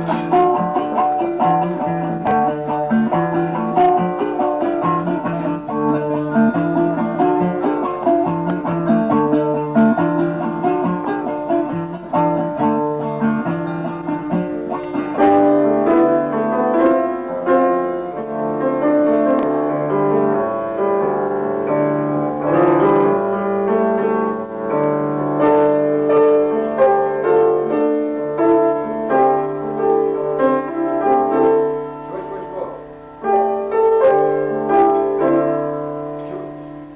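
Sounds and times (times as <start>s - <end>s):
piano-like keyboard notes: 0.0s - 36.9s
plucked strings: 0.0s - 36.9s.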